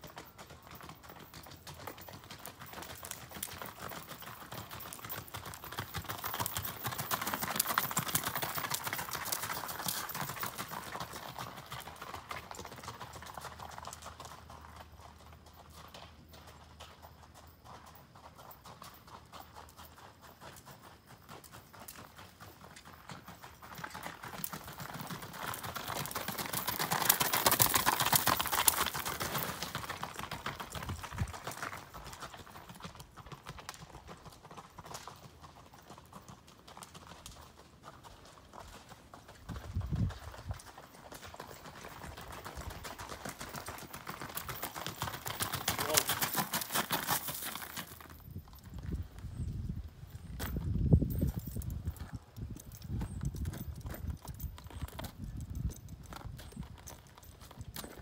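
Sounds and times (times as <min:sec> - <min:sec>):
horse hoofbeats: 0:00.0 - 0:58.0.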